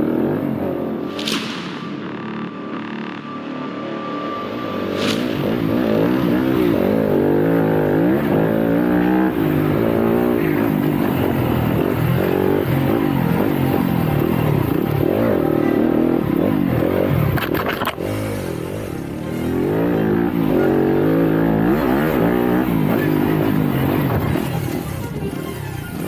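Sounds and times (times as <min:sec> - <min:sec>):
dirt bike engine revving: 0:04.8 - 0:26.0.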